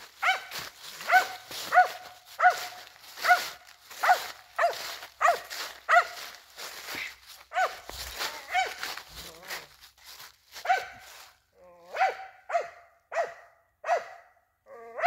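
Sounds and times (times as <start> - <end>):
dog barking: 0.2 - 6.4, 7.5 - 9.3, 10.6 - 15.0.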